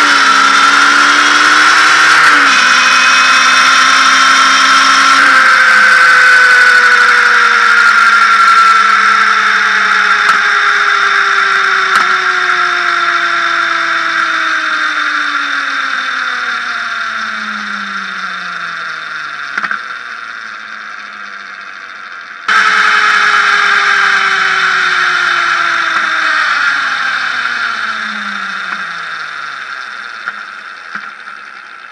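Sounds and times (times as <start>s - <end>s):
low mechanical whine: 0.0s - 31.9s
motorcycle sprocket squealing: 0.0s - 31.9s.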